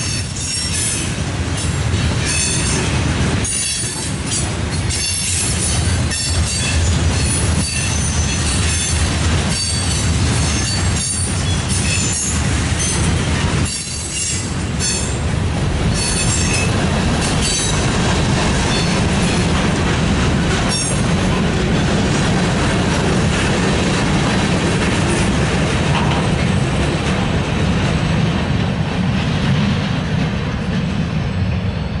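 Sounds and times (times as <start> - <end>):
wheels clicking over rail joints: 0.0 - 30.9
freight train rumbling past: 0.0 - 32.0.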